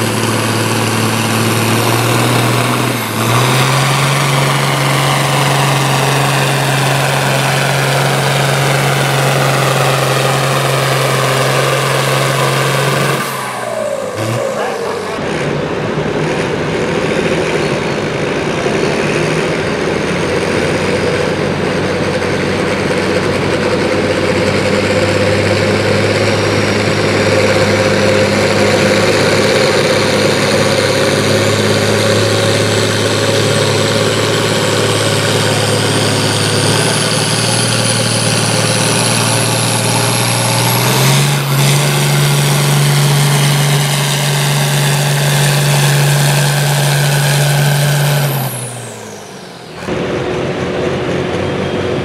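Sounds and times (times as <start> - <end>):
engine running hard under load: 0.0 - 52.0.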